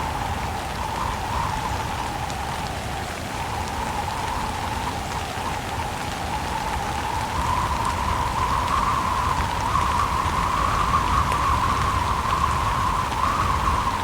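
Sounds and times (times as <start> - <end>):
faint raindrop ticks: 0.0 - 14.0
rain in wind: 0.0 - 14.0.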